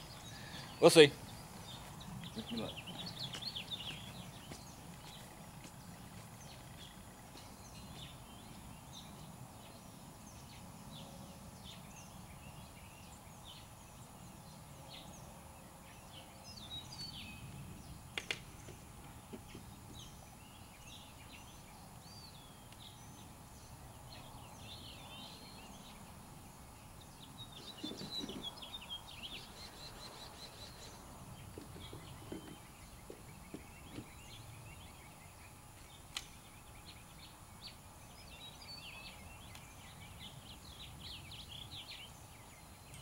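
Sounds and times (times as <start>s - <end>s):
low background noise: 0.0s - 43.0s.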